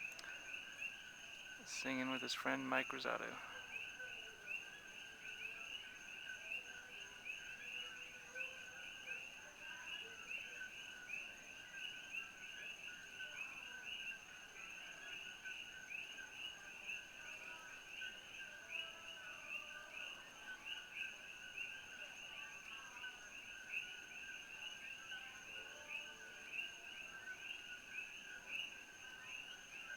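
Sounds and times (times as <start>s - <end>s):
frogs calling: 0.0s - 29.9s.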